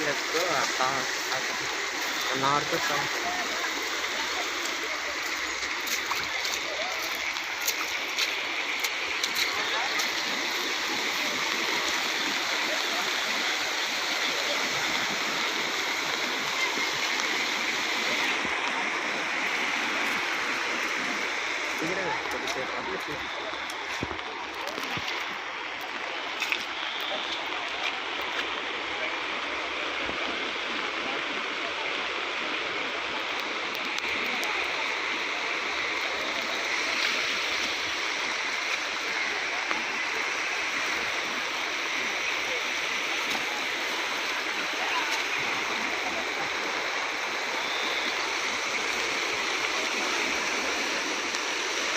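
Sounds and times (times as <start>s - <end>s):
fast flowing floodwater: 0.0s - 51.9s.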